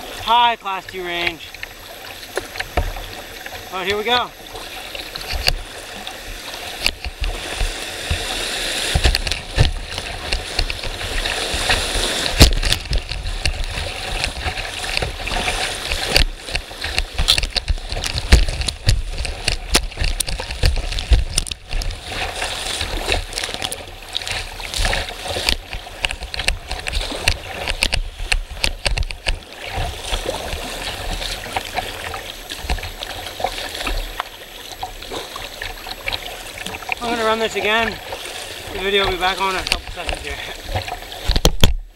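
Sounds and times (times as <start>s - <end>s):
rushing whitewater: 0.0s - 41.4s
water thumping against boat: 0.0s - 41.9s.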